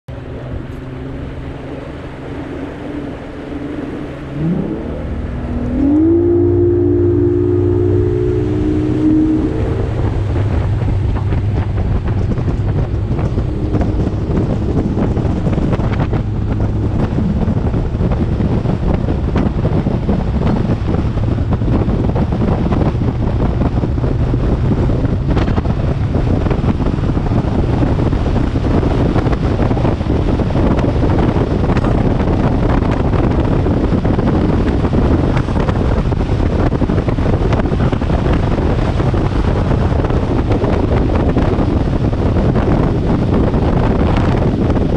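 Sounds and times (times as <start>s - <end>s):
outboard motor droning: 0.1s - 44.9s
wind buffeting microphone: 0.1s - 44.9s.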